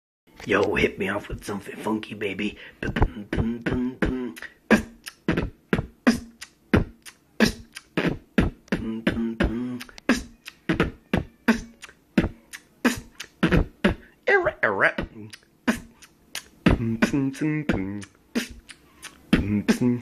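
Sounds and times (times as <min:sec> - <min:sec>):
person beatboxing: 0:01.2 - 0:14.1, 0:14.8 - 0:20.0.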